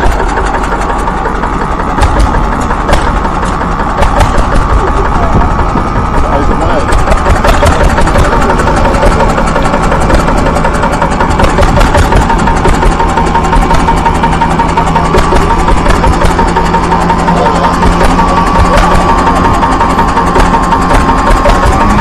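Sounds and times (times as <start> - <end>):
miniature diesel engine running: 0.0 - 22.0.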